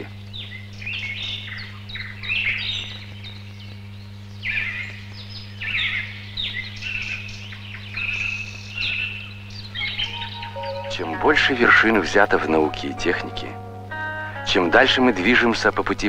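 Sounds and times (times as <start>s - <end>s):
songbirds chirping and trilling: 0.0s - 14.0s.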